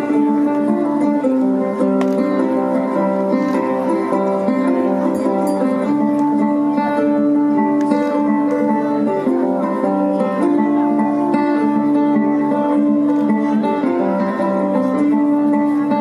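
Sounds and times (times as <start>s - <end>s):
plucked strings over held notes: 0.0s - 16.0s.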